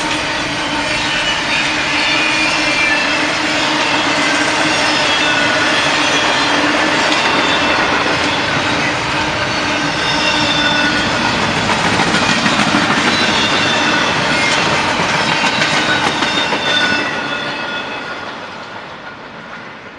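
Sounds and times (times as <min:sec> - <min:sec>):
train wheels rumbling on rail: 0:00.0 - 0:19.9
high-pitched wheel squeal: 0:00.1 - 0:11.4, 0:12.2 - 0:18.3.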